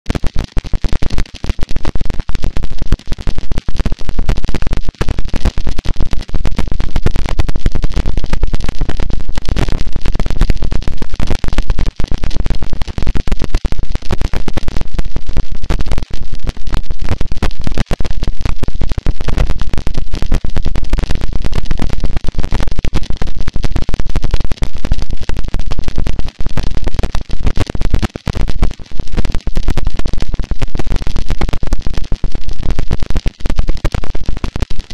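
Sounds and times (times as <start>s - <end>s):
harsh distorted static noise: 0.0s - 34.9s.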